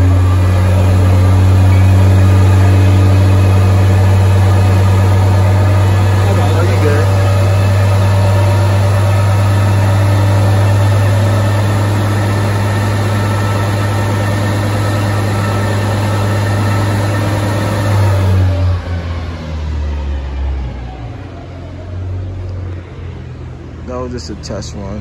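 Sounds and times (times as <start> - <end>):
car engine running on dyno: 0.0 - 25.0.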